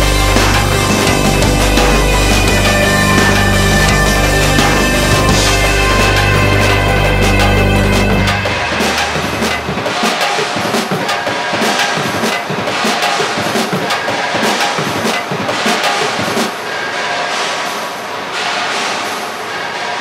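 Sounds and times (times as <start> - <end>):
background music with drums: 0.0 - 16.6.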